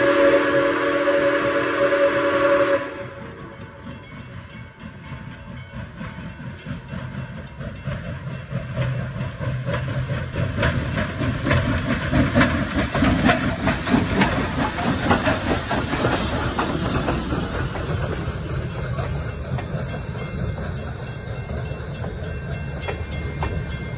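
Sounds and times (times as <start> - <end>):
hissing steam: 0.0 - 23.7
steam locomotive passing: 0.0 - 23.9
train wheels clickety-clack: 0.0 - 23.9.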